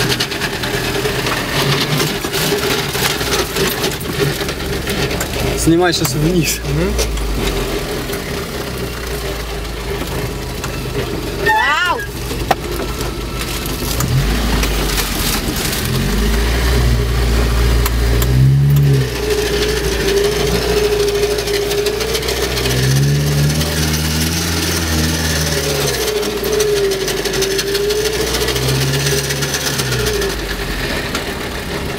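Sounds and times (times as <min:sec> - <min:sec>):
off-road vehicle engine revving: 0:00.0 - 0:31.9
water splashing against vehicle: 0:00.0 - 0:31.9.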